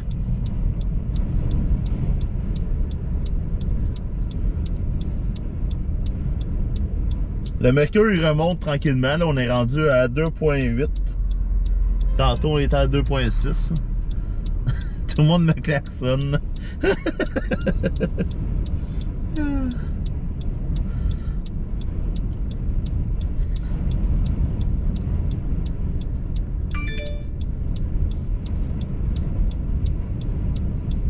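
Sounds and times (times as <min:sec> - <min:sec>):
strong wind buffeting car: 0:00.0 - 0:26.8
even ticking: 0:00.0 - 0:31.0.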